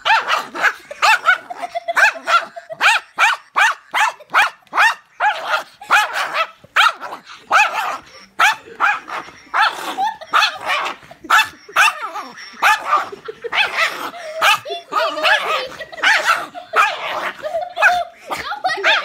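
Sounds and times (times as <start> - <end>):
small dog barking: 0.0 - 19.0.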